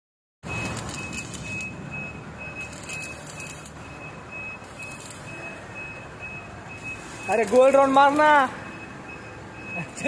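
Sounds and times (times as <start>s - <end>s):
high electronic beep: 0.4s - 8.0s, 8.6s - 10.0s.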